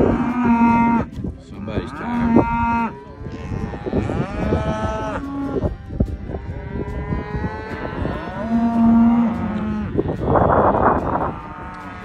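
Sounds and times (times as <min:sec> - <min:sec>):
cattle mooing: 0:00.0 - 0:01.1, 0:01.7 - 0:12.0.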